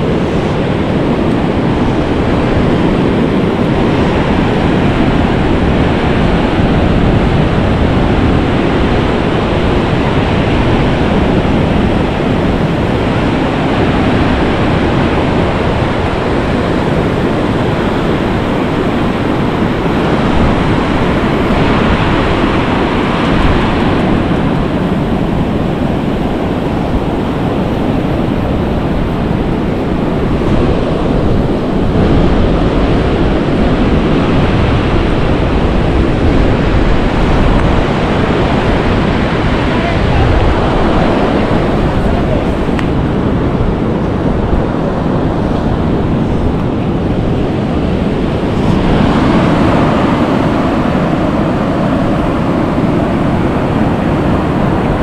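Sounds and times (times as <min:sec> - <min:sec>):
sea surf breaking: 0:00.0 - 0:55.0
wind buffeting microphone: 0:00.0 - 0:55.0.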